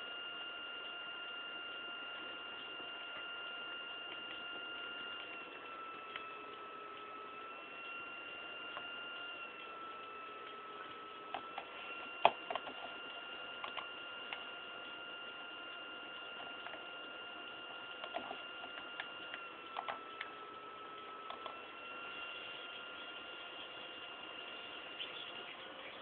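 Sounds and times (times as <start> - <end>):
electrical whine and hum: 0.0 - 26.0.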